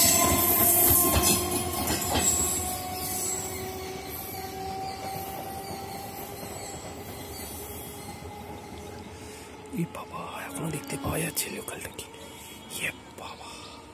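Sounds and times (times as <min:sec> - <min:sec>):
train running away: 0:00.0 - 0:13.9.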